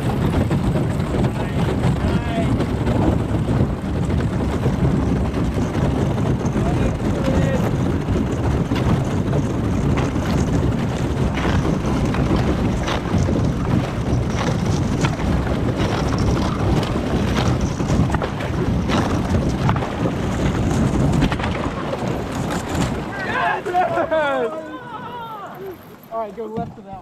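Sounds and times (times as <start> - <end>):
canoe grinding through ice: 0.0 - 27.0
wind on microphone: 0.0 - 27.0.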